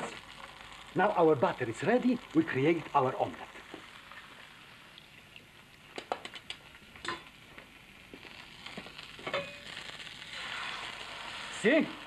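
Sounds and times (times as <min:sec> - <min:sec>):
butter sizzling in frying pan: 0:00.0 - 0:12.0.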